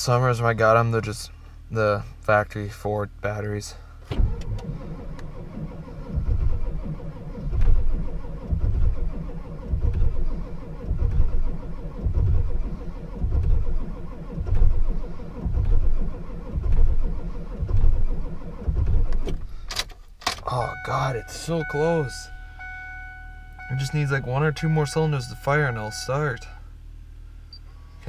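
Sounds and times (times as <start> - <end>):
diesel engine cranking: 3.9 - 26.8.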